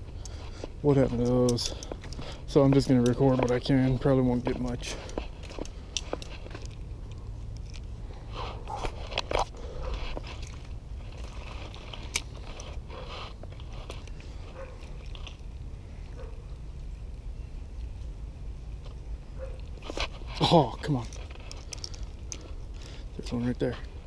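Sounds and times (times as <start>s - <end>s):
handling noise crunching and scraping: 0.0s - 16.9s, 18.7s - 24.0s.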